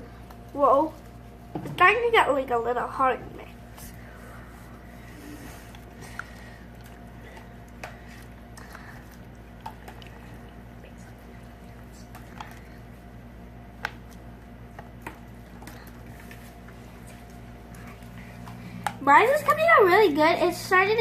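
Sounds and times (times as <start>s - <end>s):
slime squishing in a bowl: 0.0s - 19.7s.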